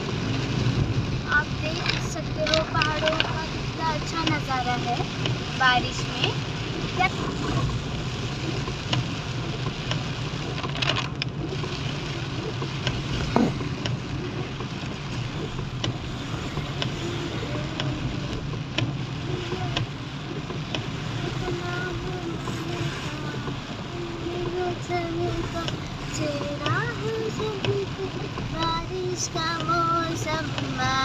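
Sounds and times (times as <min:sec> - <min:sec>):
heavy rain: 0:00.0 - 0:31.0
raindrops ticking: 0:00.0 - 0:31.0
vehicle rumbling on road: 0:00.0 - 0:31.0.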